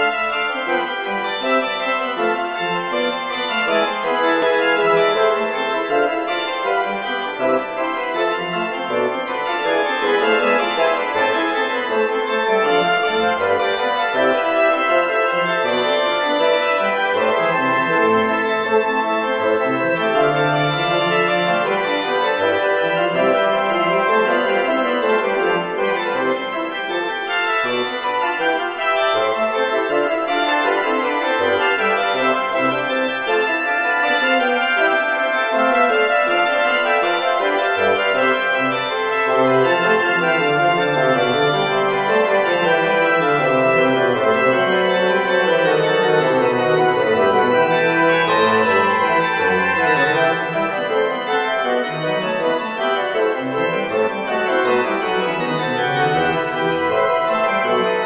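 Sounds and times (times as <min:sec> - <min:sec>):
organ playing: 0:00.0 - 0:58.0.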